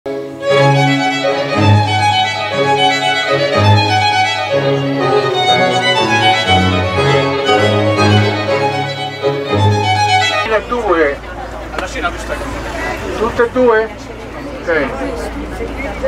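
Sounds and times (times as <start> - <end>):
melody of held notes: 0.1 - 13.8
low bass line: 0.4 - 16.0.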